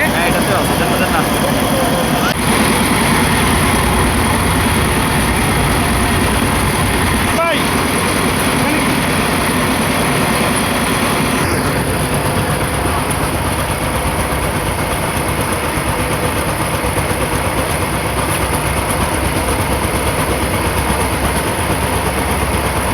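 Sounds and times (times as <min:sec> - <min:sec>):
vehicle engine running: 0:00.0 - 0:22.9.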